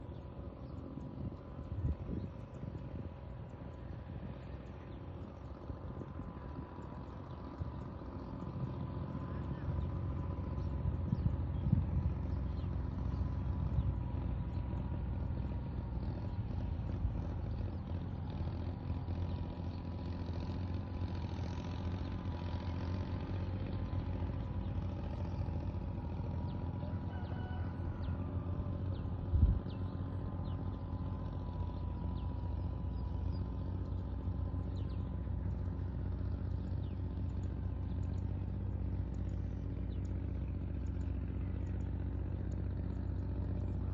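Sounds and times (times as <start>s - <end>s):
motor humming steadily: 0.0s - 43.9s.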